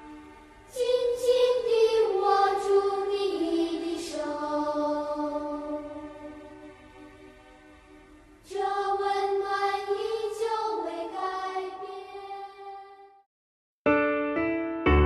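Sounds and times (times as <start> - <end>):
choir singing held chords: 0.0 - 13.2.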